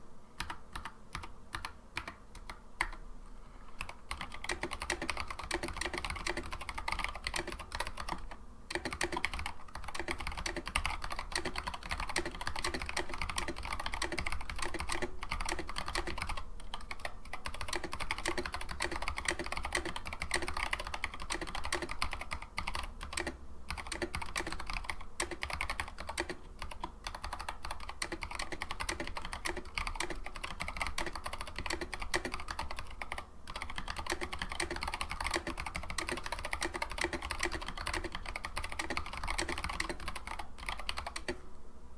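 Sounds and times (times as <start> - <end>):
mechanical keyboard typing: 0.4 - 3.0, 3.8 - 41.4.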